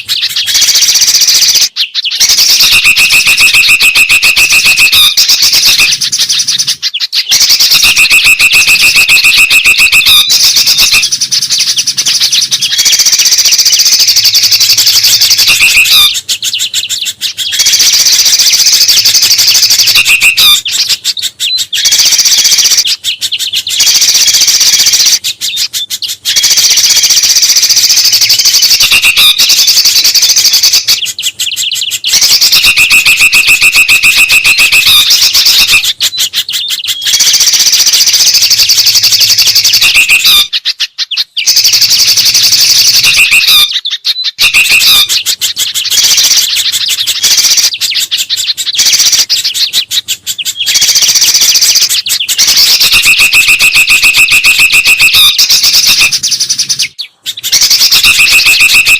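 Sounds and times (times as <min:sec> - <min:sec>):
birds chattering and trilling: 0:00.0 - 0:58.9.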